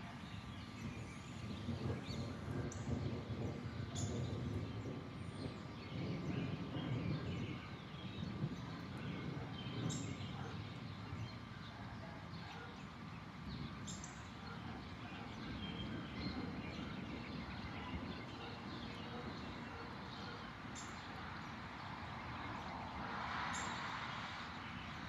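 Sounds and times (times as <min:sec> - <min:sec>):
birds chirping: 0:00.0 - 0:25.0
low outdoor background noise: 0:00.0 - 0:25.0.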